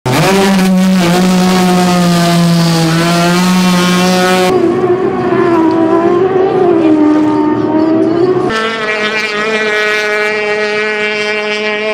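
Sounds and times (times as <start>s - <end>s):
outboard engine running: 0.1s - 11.9s
race boats passing at speed: 0.1s - 11.9s.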